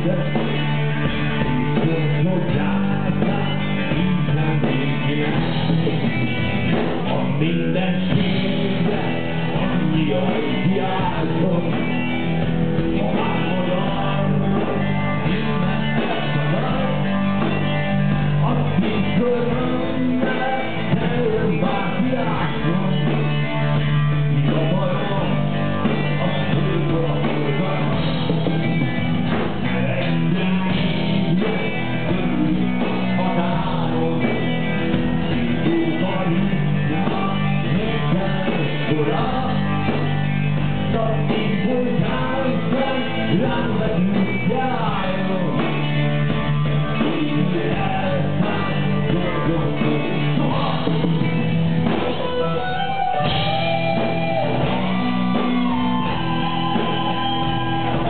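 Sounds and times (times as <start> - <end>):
live rock band playing: 0.0 - 58.0
man singing: 0.0 - 58.0.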